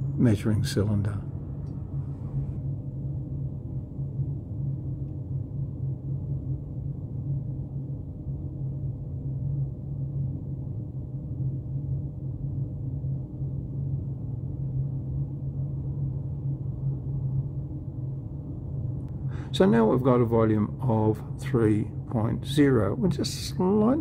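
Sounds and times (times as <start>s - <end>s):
low hum and rumble: 0.0s - 24.0s.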